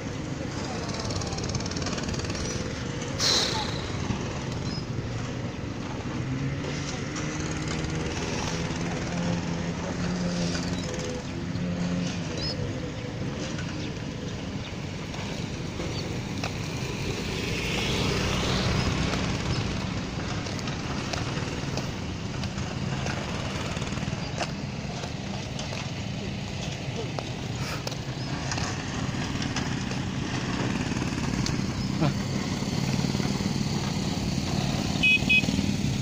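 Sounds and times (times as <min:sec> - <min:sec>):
motor engine running: 0:00.0 - 0:36.0
outdoor background noise: 0:00.0 - 0:36.0.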